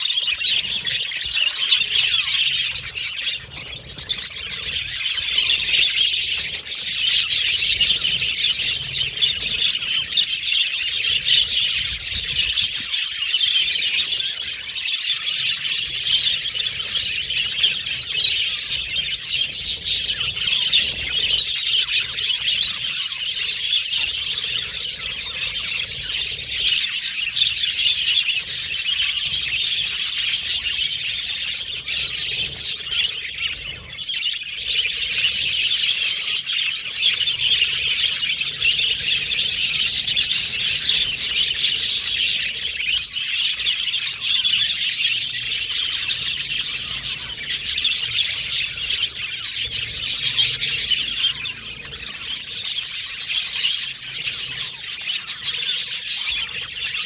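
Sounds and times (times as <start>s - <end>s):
budgies chattering and warbling: 0.0s - 57.0s.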